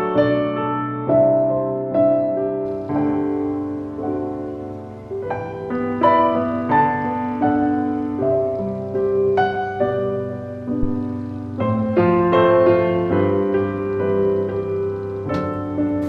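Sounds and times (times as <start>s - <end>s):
slow gentle piano piece: 0.0s - 16.0s.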